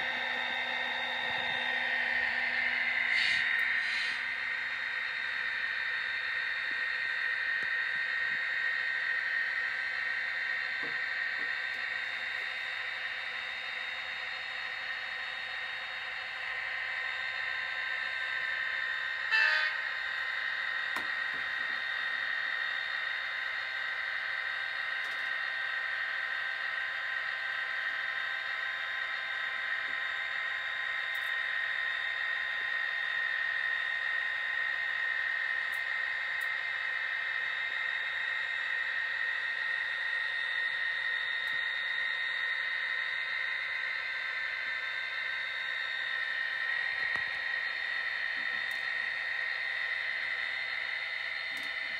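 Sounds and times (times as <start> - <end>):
model train whirring hum: 0.0 - 51.9.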